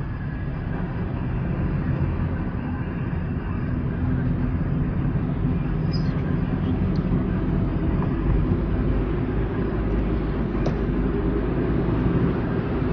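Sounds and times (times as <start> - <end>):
car road and engine noise: 0.0 - 12.9.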